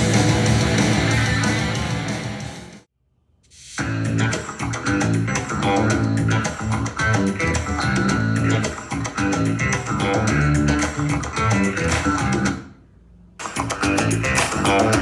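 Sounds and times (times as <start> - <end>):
rock music through portable speaker: 0.0 - 2.9, 3.6 - 12.7, 13.4 - 15.0.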